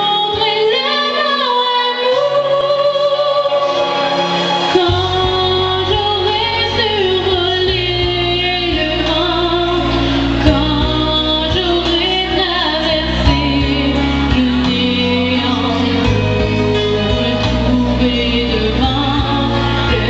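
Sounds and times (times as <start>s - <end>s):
girl singing into microphone: 0.0s - 4.0s, 4.7s - 20.0s
amplified backing music: 0.0s - 20.0s.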